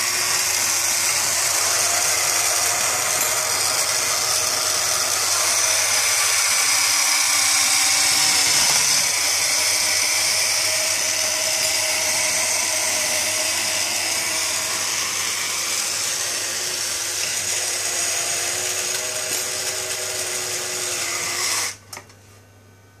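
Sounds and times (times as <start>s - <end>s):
toy motor whirring: 0.0s - 21.8s.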